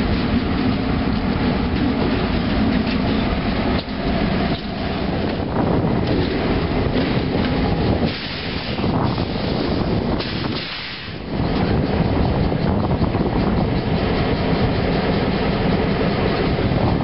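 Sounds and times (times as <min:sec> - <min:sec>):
diesel locomotive engines running: 0:00.0 - 0:17.0.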